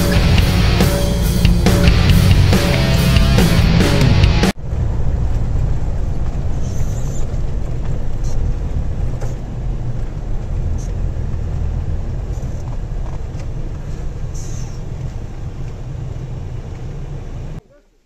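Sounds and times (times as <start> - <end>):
car cabin road rumble: 0.0 - 17.8.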